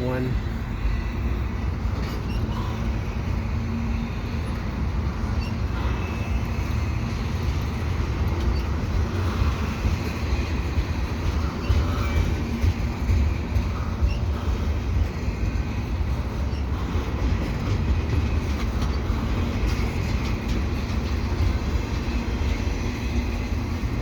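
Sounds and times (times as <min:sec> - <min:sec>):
freight train cars rumbling: 0:00.0 - 0:24.0
train wheels clicking: 0:00.8 - 0:24.0.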